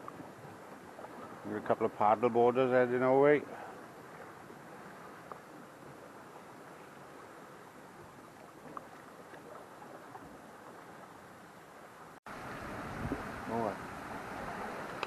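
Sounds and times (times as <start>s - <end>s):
calm sea washing against rock: 0.0s - 15.0s.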